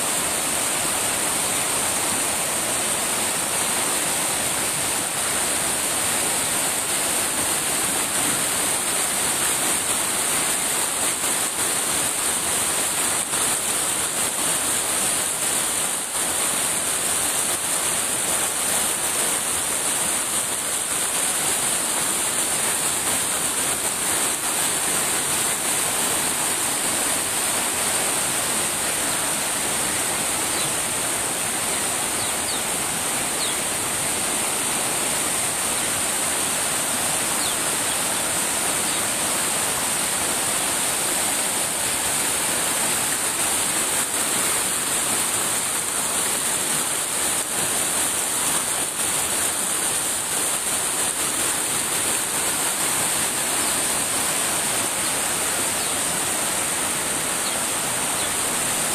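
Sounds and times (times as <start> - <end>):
stream rushing over stones: 0.0 - 58.9.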